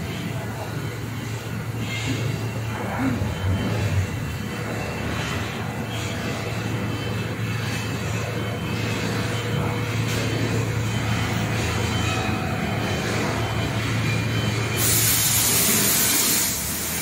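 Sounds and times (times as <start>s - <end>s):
chiller compressor and fans humming: 0.0s - 17.0s.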